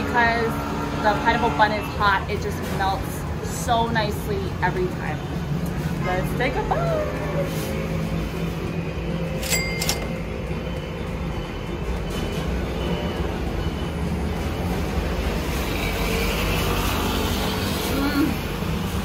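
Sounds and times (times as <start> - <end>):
street traffic drone: 0.0 - 19.0.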